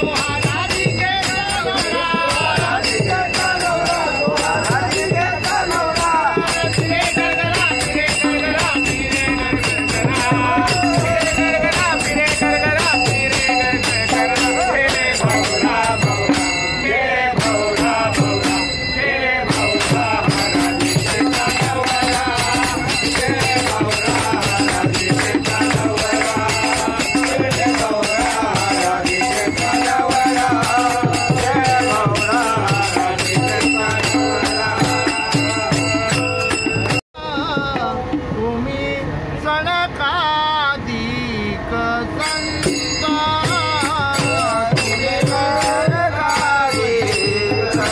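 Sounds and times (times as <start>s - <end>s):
brass hand cymbals ringing: 0.0s - 37.0s, 42.2s - 47.9s
men singing together: 0.0s - 41.1s, 41.7s - 47.9s.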